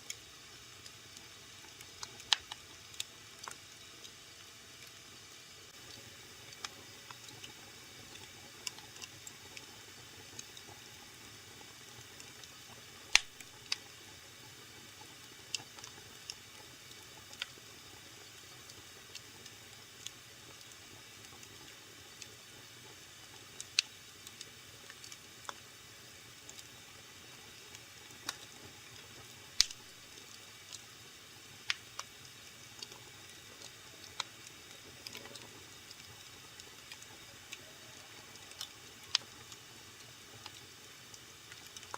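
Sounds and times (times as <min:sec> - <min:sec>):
wood fire crackling and popping: 0:00.0 - 0:05.0, 0:05.6 - 0:41.9.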